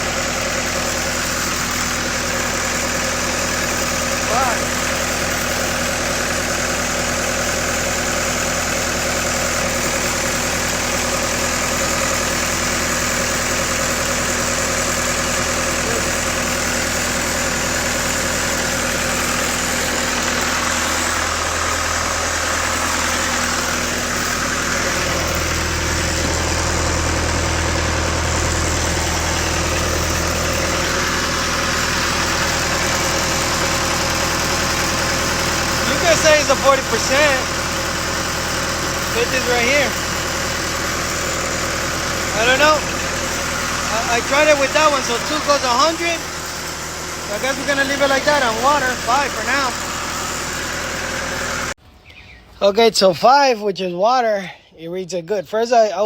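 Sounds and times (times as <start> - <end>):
welder engine idling: 0.0 - 53.6.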